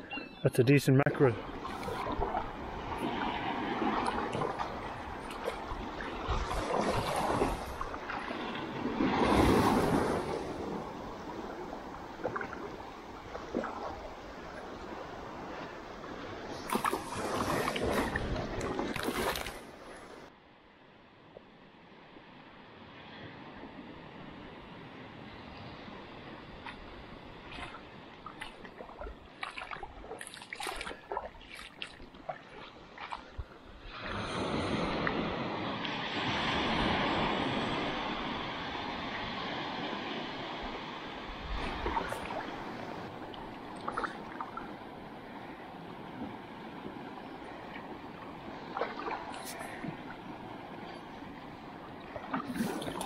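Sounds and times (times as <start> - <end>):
surf breaking and foaming: 0.0 - 20.3, 22.8 - 53.0
surging washes of water: 0.0 - 20.3, 21.6 - 53.0.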